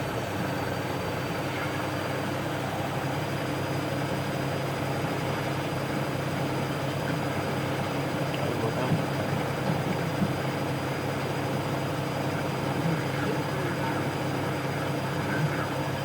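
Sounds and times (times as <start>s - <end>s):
washing machine motor drone: 0.0s - 16.0s.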